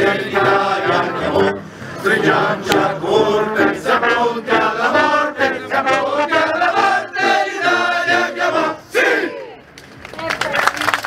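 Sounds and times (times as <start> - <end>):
group singing marching song: 0.0 - 9.5.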